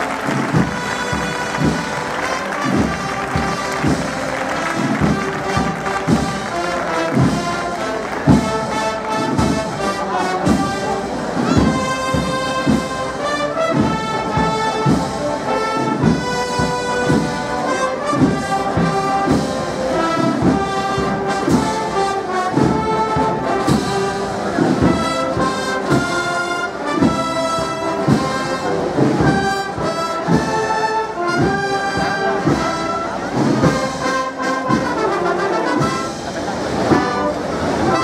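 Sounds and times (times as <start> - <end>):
brass and woodwind melody: 0.0 - 38.0.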